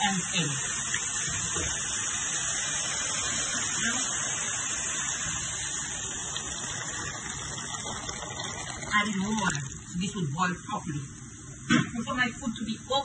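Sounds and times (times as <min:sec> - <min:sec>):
stew sizzling in a pot: 0:00.0 - 0:10.6.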